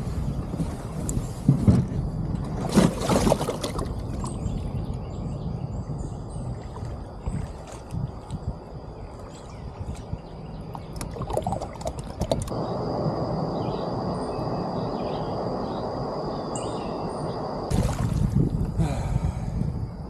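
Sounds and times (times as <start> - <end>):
rushing wind and water: 0.0 - 20.0.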